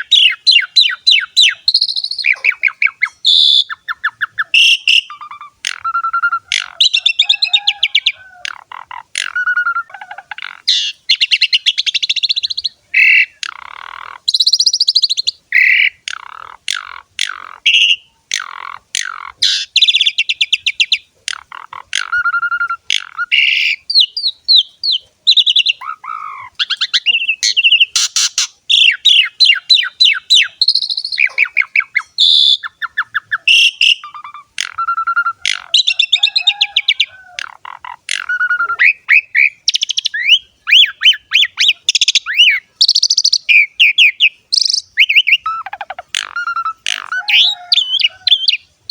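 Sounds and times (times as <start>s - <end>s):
starling singing: 0.0s - 48.9s.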